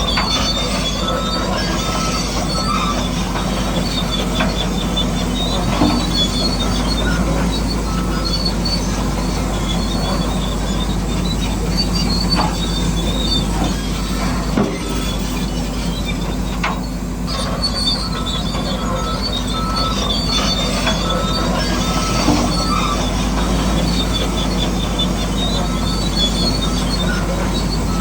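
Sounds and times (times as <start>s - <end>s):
high squealing: 0.0s - 28.0s
model bulldozer motor drone: 0.0s - 28.0s.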